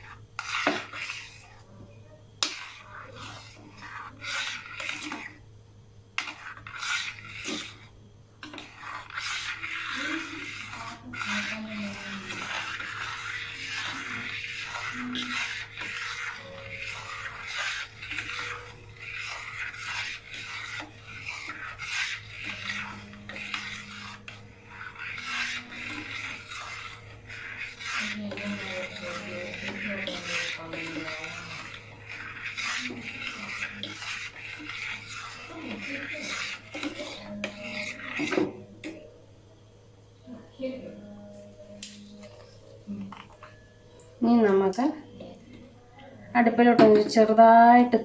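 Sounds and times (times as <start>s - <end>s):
spoon stirring and scraping a pan: 0.0s - 48.0s.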